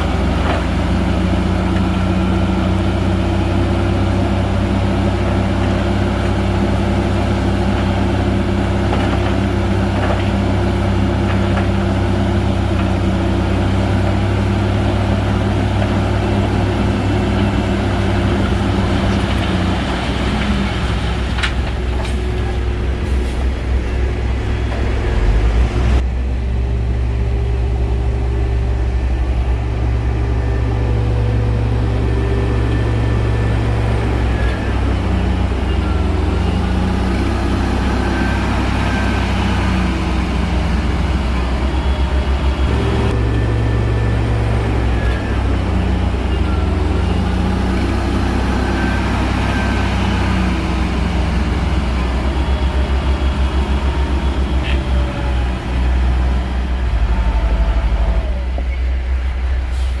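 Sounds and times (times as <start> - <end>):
bulldozer engine working under load: 0.0 - 60.0.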